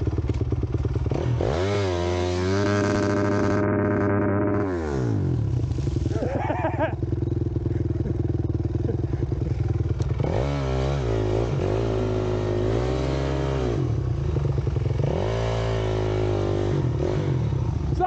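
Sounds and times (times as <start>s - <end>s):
dirt bike engine idling and revving: 0.0s - 18.0s.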